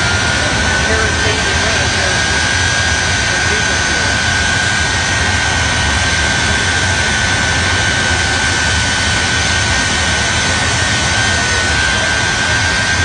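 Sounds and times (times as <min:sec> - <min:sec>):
high whine: 0:00.0 - 0:13.0
jet engines running: 0:00.0 - 0:13.0.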